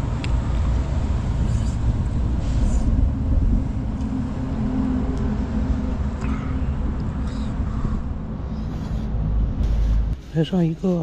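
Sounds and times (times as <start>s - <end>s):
faint engine hum: 0.0s - 11.0s
passing road traffic rumble: 0.0s - 11.0s.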